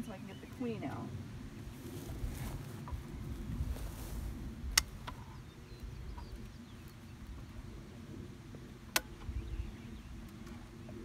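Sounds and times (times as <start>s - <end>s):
steady low noise: 0.0s - 11.0s.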